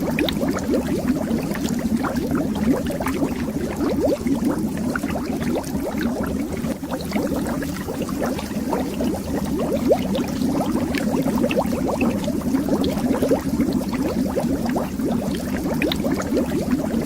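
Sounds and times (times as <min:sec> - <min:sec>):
bubbles rising underwater: 0:00.0 - 0:17.0.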